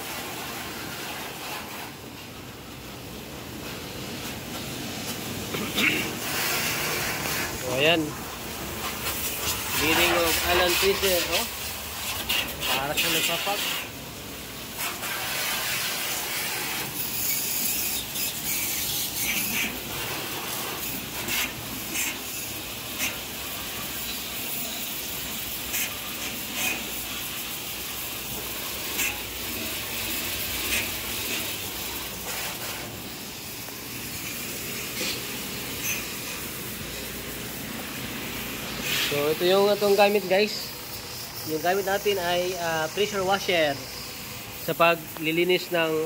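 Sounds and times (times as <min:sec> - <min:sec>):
pressure washer jet hissing: 0:00.0 - 0:46.0.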